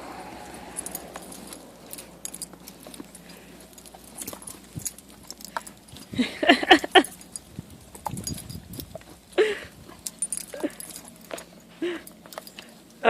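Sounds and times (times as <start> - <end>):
dog collar tags jingling: 0.0 - 13.0.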